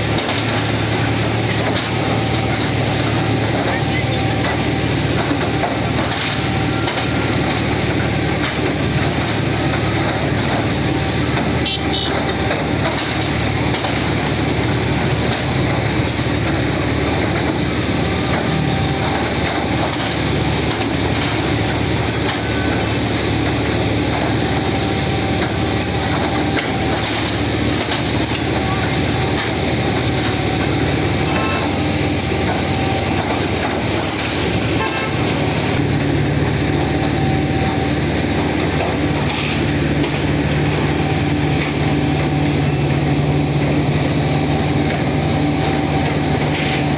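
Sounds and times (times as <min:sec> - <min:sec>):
heavy diesel machine running: 0:00.0 - 0:46.9.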